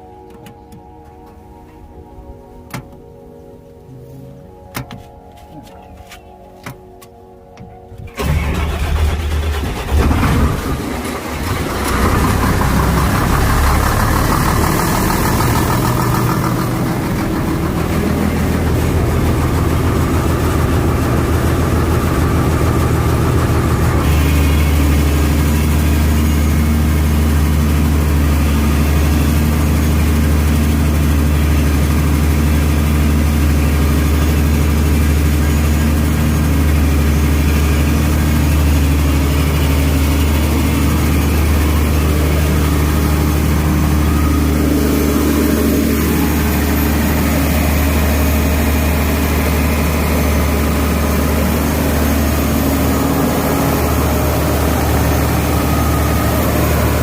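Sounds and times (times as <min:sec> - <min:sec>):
generator running: 0:04.5 - 0:57.0.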